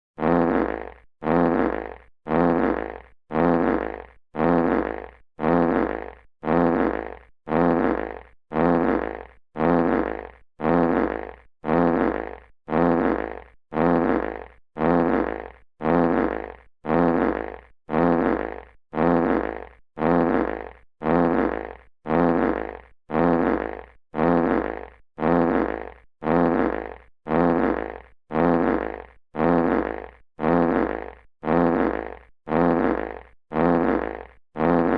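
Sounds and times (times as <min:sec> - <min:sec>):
fart sound effect: 0:00.2 - 0:34.9.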